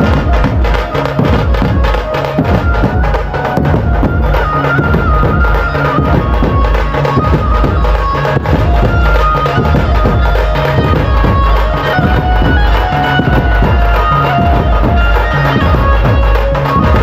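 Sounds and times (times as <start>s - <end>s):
heavy driving drum beat: 0.0s - 17.0s
reedy melody line: 0.0s - 17.0s.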